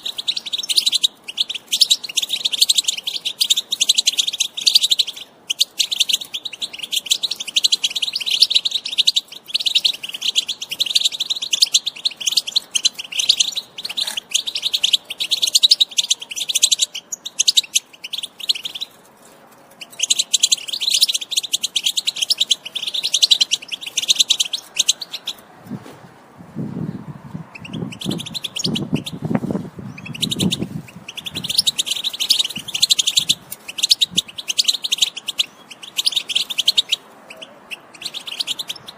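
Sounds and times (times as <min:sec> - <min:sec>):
goldfinch twittering song: 0:00.0 - 0:19.0, 0:19.8 - 0:25.4, 0:27.4 - 0:29.3, 0:29.9 - 0:38.9.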